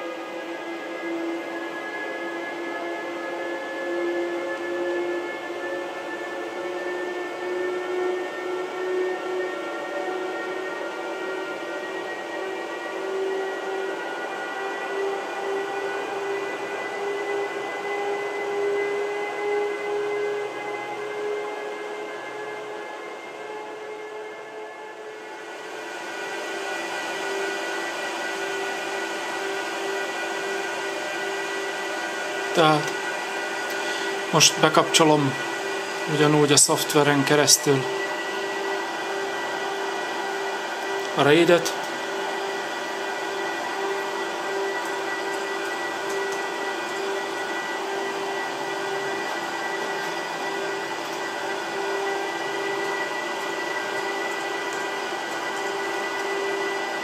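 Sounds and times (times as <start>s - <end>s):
faint high whine: 0.0s - 57.0s
server cooling fans humming: 0.0s - 57.0s.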